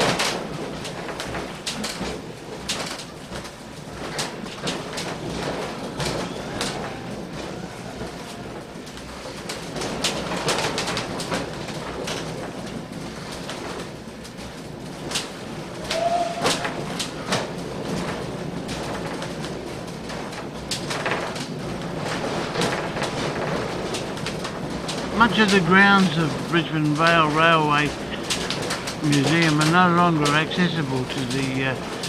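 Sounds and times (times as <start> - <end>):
train carriage rumbling: 0.0 - 32.0
wheels clicking and rattling: 0.0 - 32.0.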